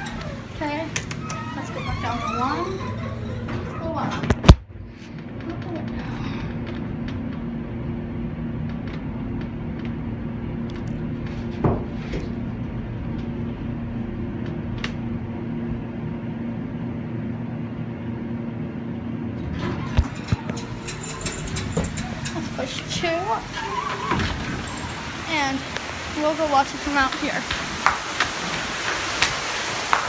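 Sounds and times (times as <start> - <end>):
elevator hum: 0.0 - 29.1.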